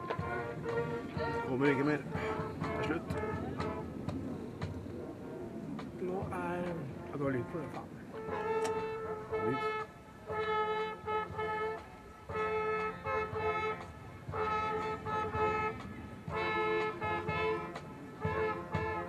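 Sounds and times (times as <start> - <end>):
marching band brass chords: 0.0 - 19.0.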